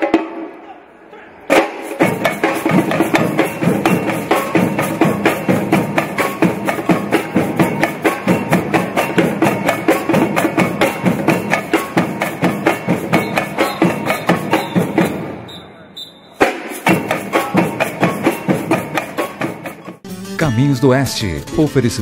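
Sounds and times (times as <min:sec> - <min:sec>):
fast drum percussion music: 0:01.5 - 0:15.6, 0:16.2 - 0:22.0.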